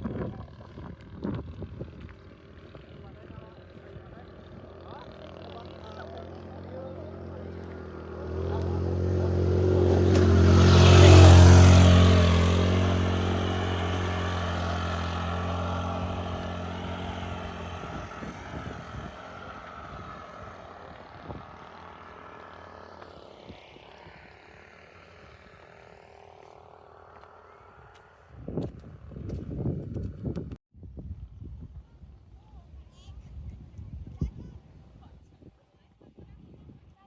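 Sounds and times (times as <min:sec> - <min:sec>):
motorbike engine passing by: 0:00.0 - 0:30.4.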